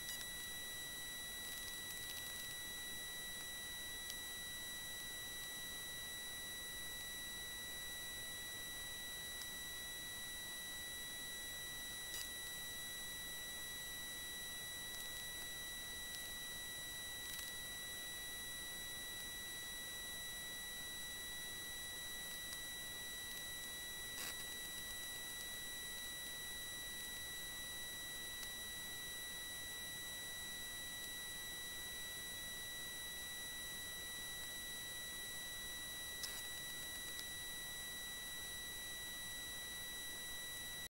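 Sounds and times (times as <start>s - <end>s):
high-pitched electronic whine: 0.0s - 40.9s.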